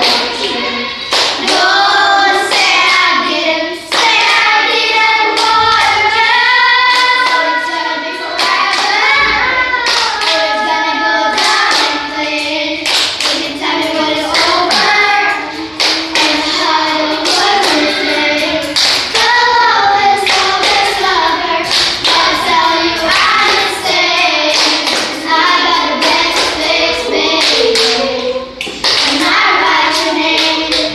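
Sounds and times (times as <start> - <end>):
children singing: 0.0 - 30.9.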